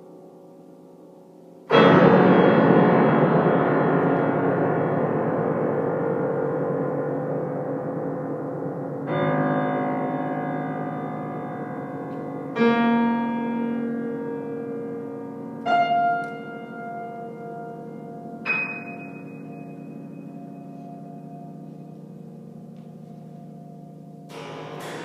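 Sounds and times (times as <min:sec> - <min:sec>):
solo piano slow chords: 0:00.0 - 0:25.0.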